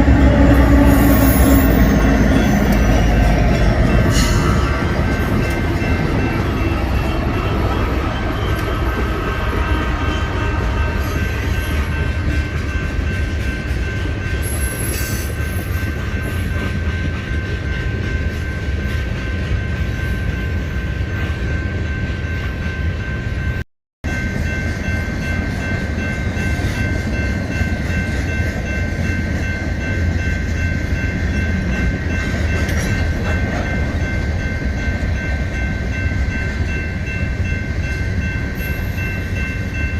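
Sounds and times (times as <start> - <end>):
steady high tone: 0.0 - 39.9
train wheels rumbling on rails: 0.0 - 39.9.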